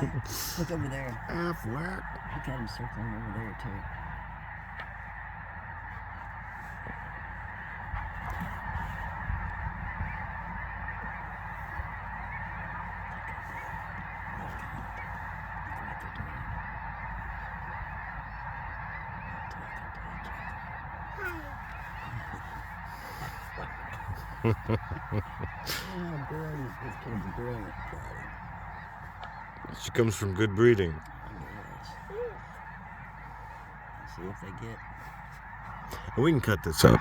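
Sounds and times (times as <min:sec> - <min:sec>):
flock of geese honking: 0:00.0 - 0:37.0.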